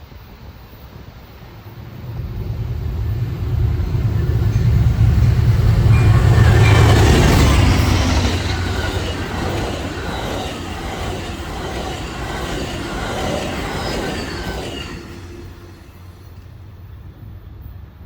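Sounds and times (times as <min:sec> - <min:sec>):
train rumble and wheel noise: 0:00.0 - 0:18.0.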